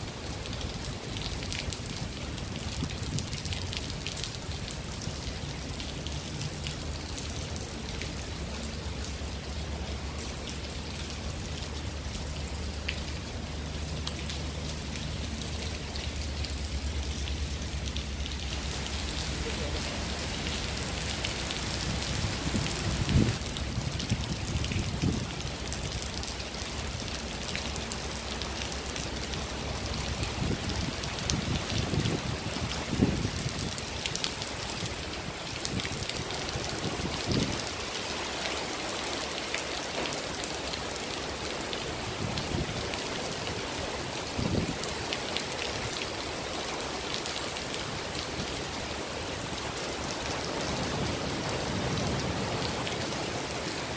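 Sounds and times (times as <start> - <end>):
heavy rain on paving and roof: 0.0 - 53.9.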